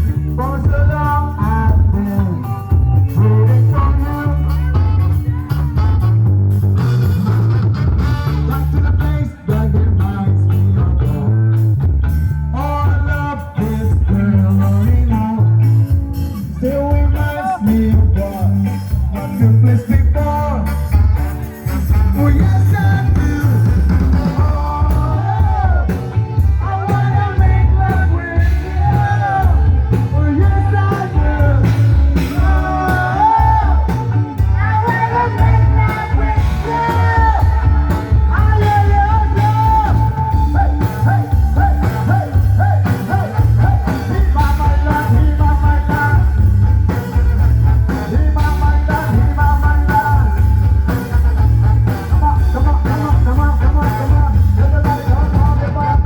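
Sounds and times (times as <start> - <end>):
person singing: 0.0 - 6.3, 8.2 - 11.7, 12.3 - 56.0
live band playing: 0.0 - 56.0.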